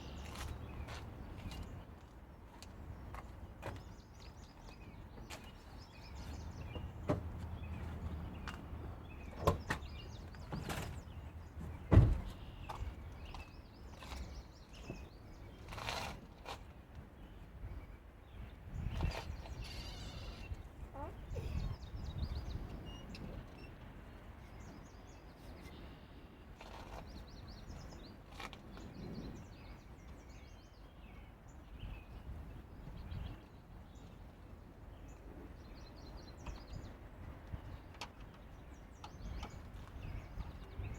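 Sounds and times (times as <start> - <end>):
faint birds chirping: 0.0 - 40.9
rustle: 0.0 - 40.9.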